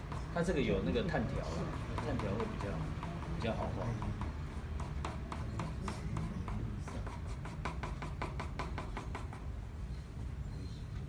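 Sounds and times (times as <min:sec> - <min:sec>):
pencil scratching on paper: 0:00.0 - 0:09.4.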